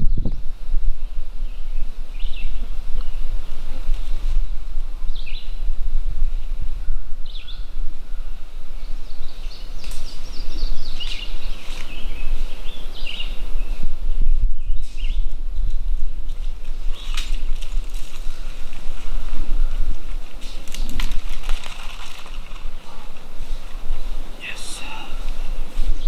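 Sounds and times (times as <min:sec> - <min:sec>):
small birds chirping: 0:00.0 - 0:03.7, 0:04.9 - 0:05.7, 0:06.4 - 0:15.8, 0:16.6 - 0:26.0.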